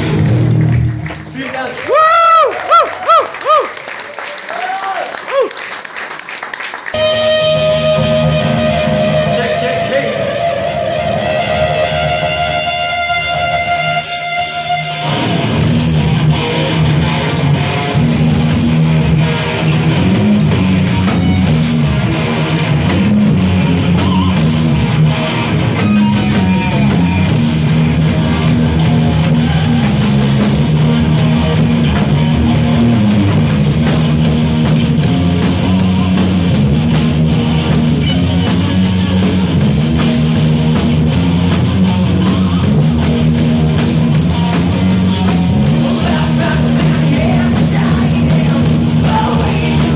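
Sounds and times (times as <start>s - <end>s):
loud rock music: 0.0s - 2.3s, 7.0s - 49.9s.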